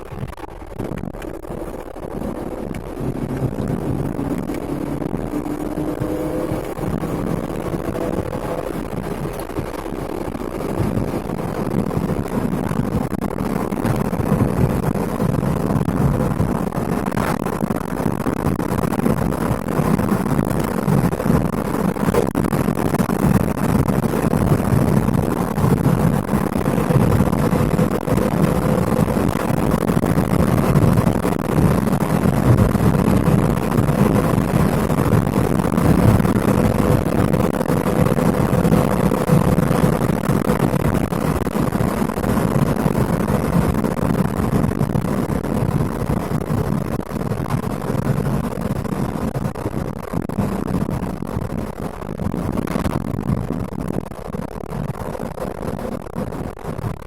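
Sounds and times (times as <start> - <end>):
car engine from inside cabin: 0.0 - 46.2
road noise: 0.0 - 57.0.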